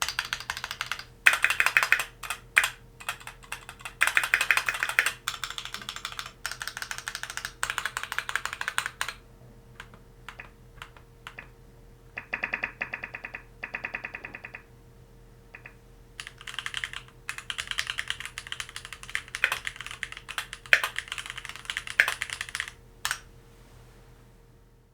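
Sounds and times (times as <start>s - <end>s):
mechanical keyboard typing: 0.0s - 9.2s, 9.8s - 11.5s, 12.2s - 14.6s, 15.6s - 23.2s.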